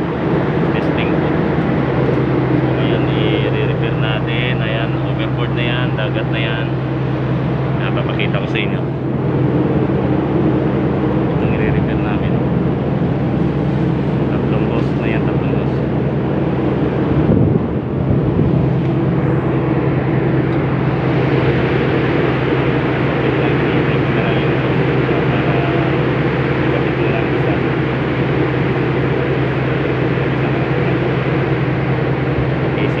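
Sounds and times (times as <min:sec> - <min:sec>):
ship machinery drone: 0:00.0 - 0:33.0
wind and sea rushing: 0:00.0 - 0:33.0.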